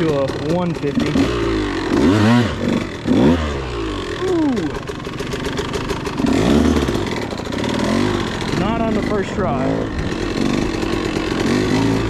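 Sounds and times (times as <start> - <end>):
two-stroke engine revving: 0.0 - 12.0.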